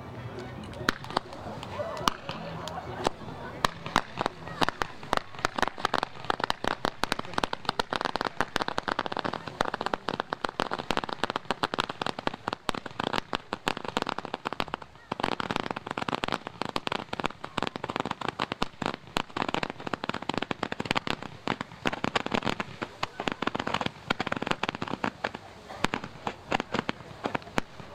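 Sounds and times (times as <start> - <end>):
crackling fireworks: 0.0 - 27.9.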